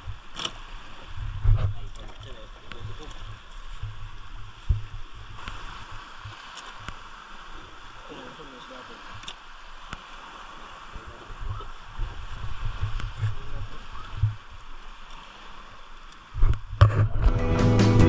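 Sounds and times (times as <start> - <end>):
steady water-like hiss: 0.0 - 16.8.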